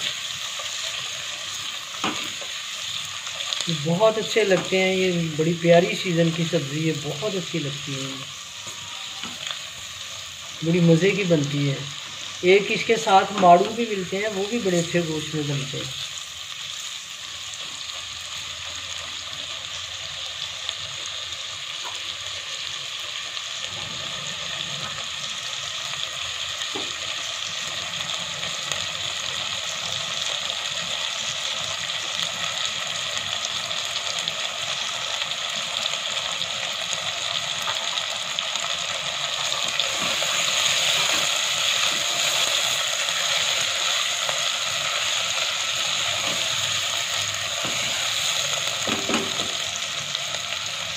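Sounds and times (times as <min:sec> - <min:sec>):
chicken and onions sizzling in oil: 0:00.0 - 0:50.9.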